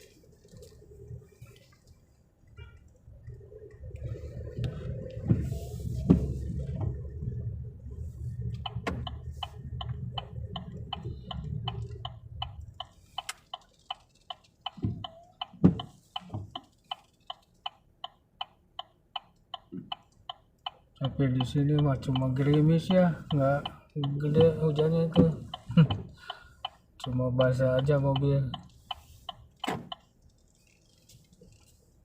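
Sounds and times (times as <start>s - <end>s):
road and engine rumble: 0.0s - 32.0s
turn signal ticking: 0.0s - 32.0s.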